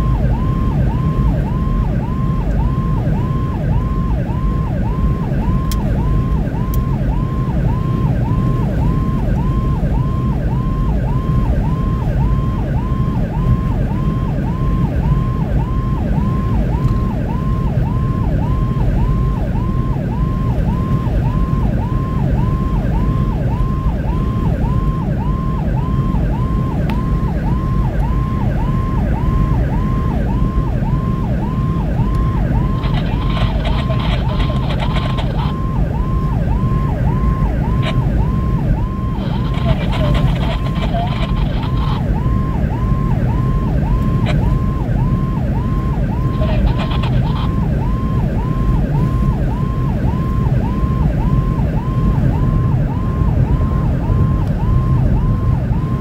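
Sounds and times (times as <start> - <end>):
emergency siren yelping: 0.0 - 56.0
engine and tyre rumble: 0.0 - 56.0.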